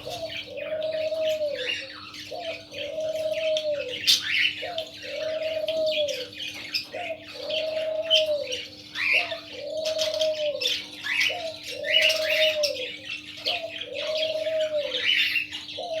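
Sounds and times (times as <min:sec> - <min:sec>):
dove cooing: 0:00.0 - 0:16.0
parrots chirping and squawking: 0:00.0 - 0:16.0.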